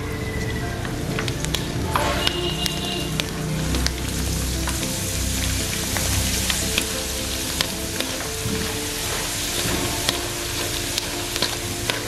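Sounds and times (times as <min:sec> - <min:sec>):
pasta sizzling in hot oil: 0:00.0 - 0:12.0
wire skimmer stirring oil: 0:00.0 - 0:12.0.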